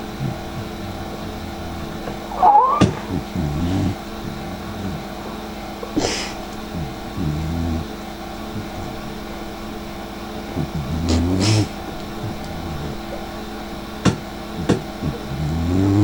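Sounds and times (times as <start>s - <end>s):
dog snoring: 0.0s - 16.0s.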